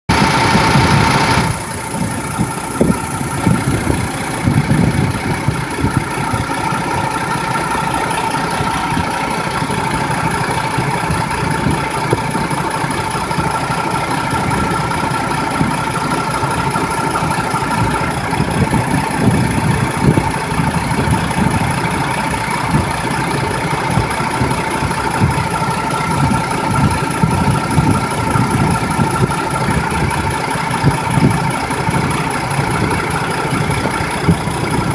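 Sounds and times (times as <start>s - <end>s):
diesel engine clattering: 0.0s - 34.9s
engine whine: 0.0s - 34.9s.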